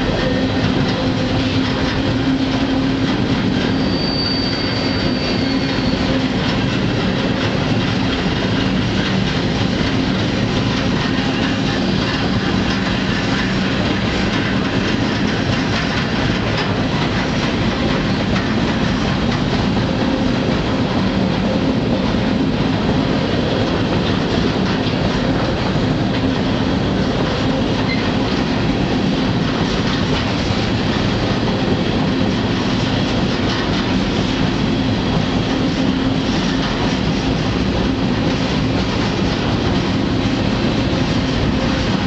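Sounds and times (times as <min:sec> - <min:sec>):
clickety-clack of wheels: 0:00.0 - 0:42.0
train wheels rumbling on rails: 0:00.0 - 0:42.0.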